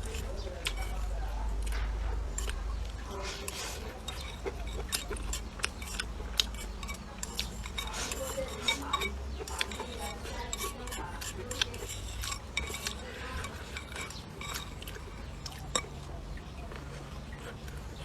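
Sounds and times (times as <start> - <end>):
utensils clinking against a bowl: 0.0 - 18.0.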